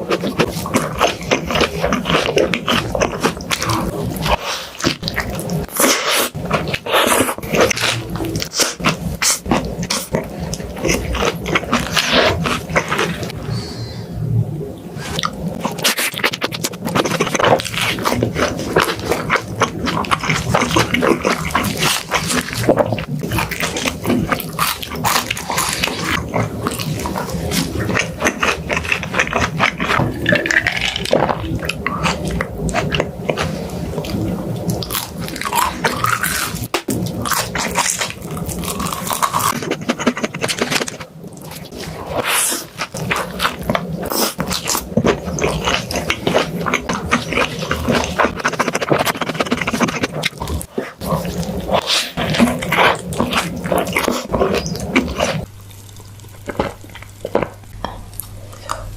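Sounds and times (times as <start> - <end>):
person chewing crunchy food: 0.0 - 14.0, 15.0 - 58.9
wet mouth noises: 0.0 - 14.0, 14.9 - 58.9.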